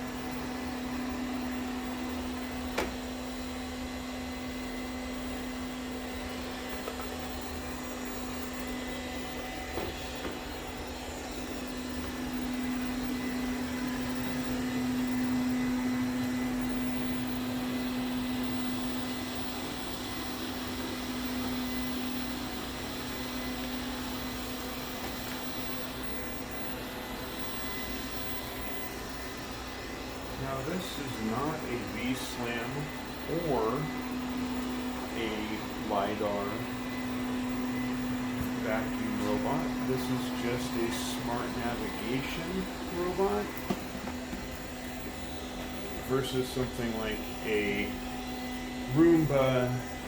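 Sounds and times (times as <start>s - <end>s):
robot vacuum cleaner whirring: 0.0s - 50.0s.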